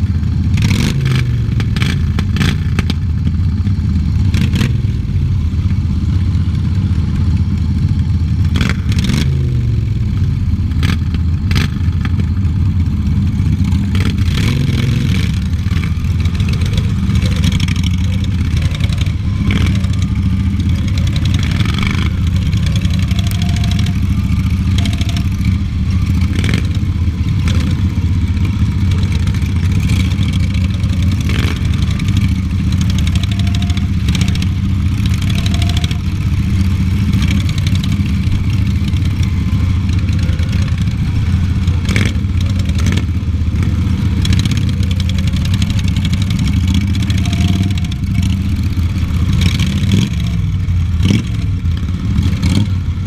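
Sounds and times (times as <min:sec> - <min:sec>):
lawn mower engine running: 0:00.0 - 0:53.0.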